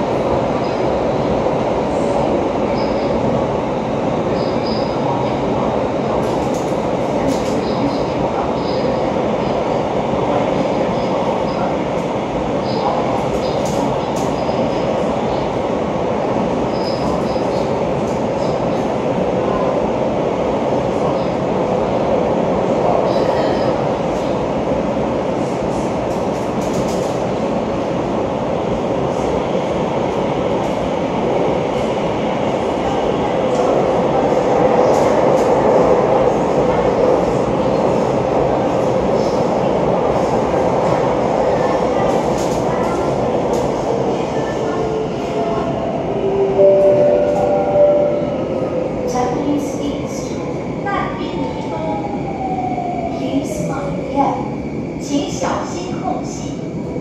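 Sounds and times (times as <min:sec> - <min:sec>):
metro train cabin rumble: 0:00.0 - 0:57.0.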